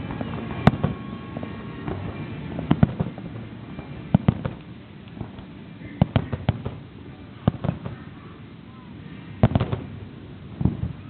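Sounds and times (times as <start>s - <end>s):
fireworks bangs: 0.0s - 8.5s, 9.4s - 11.0s.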